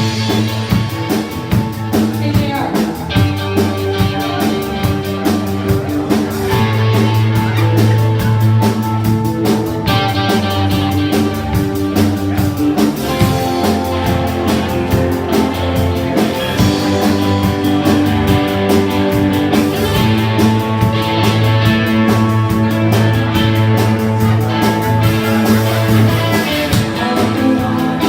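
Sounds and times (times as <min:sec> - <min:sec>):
bass guitar: 0:00.0 - 0:28.0
drum beat: 0:00.0 - 0:28.0
electric guitar: 0:00.0 - 0:28.0.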